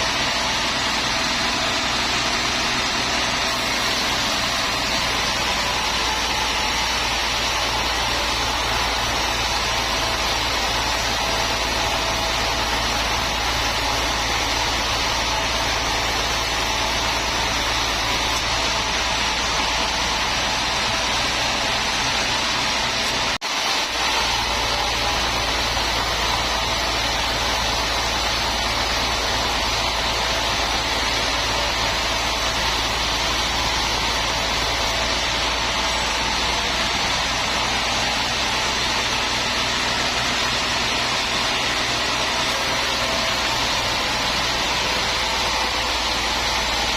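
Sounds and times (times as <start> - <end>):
sawmill machinery drone: 0.0 - 46.9.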